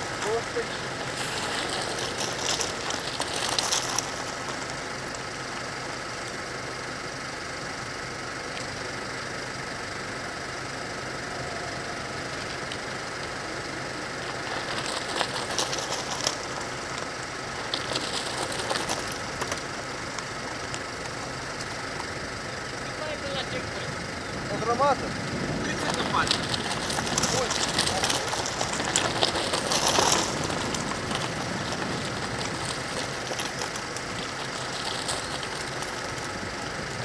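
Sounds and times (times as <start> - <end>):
bikes passing with clicking: 0.0 - 37.0.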